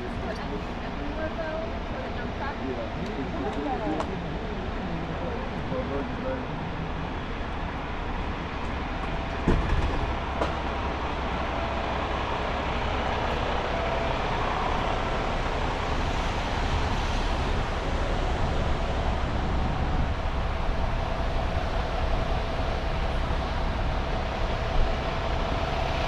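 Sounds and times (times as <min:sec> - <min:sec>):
traffic on wet street: 0:00.0 - 0:26.0.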